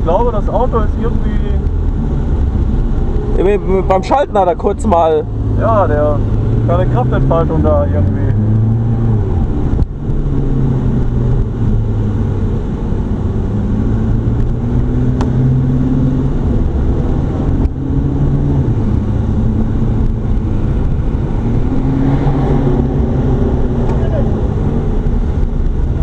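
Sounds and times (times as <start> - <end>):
car engine running inside cabin: 0.0 - 26.0.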